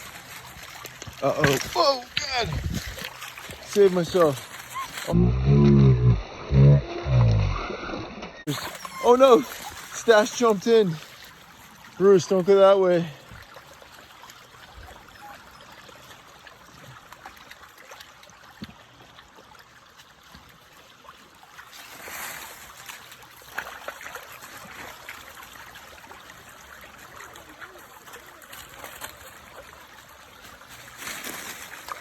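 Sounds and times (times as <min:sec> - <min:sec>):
creek water trickling: 0:00.0 - 0:32.0.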